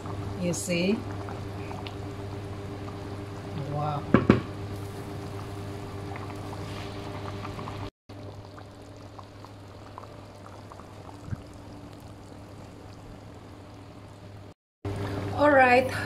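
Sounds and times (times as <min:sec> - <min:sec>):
curry bubbling in a frying pan: 0:00.0 - 0:14.6
steady low hum: 0:00.0 - 0:16.0.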